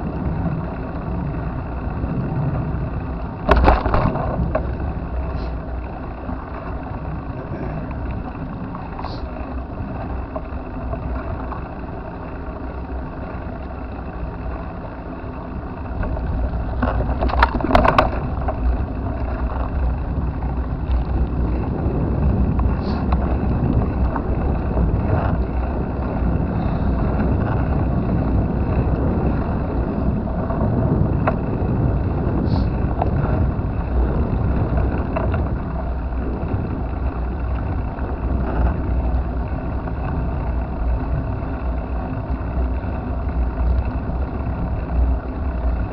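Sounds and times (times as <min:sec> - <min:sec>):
rattling clatter: 0:00.0 - 0:45.9
wind and road noise: 0:00.0 - 0:45.9.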